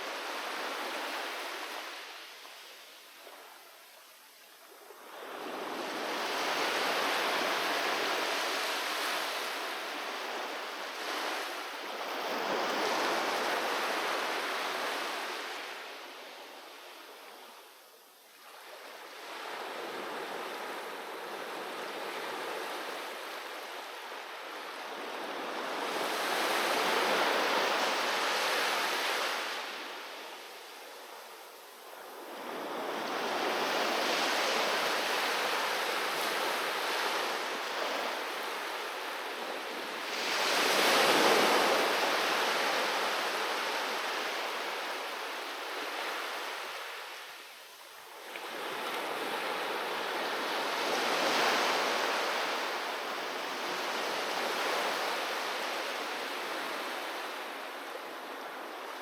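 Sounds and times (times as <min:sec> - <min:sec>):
ocean waves breaking on beach: 0:00.0 - 0:03.6, 0:04.7 - 0:17.5, 0:18.4 - 0:47.5, 0:48.1 - 0:59.0.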